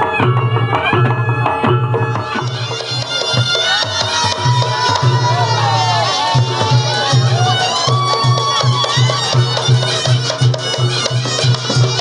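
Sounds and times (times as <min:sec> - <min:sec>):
low percussion beat: 0:00.0 - 0:12.0.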